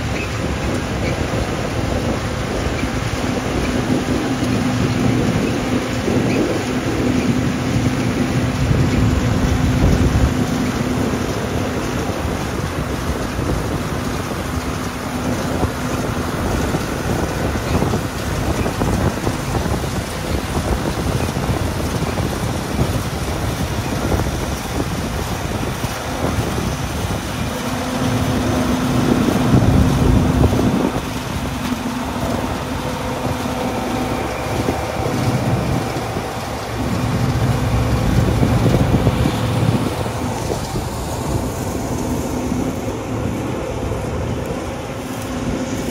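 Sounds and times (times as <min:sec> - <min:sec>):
harvester machine running: 0:00.0 - 0:45.9.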